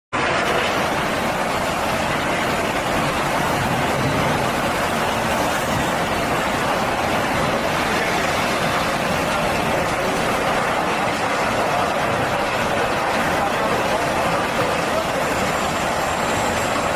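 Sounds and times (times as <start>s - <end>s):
excavator engine running: 0.2s - 16.9s.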